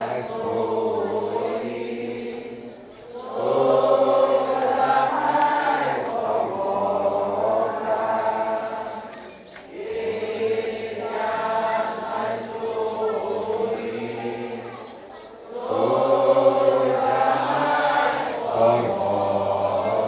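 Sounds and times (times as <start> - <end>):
group singing a hymn: 0.0 - 20.0.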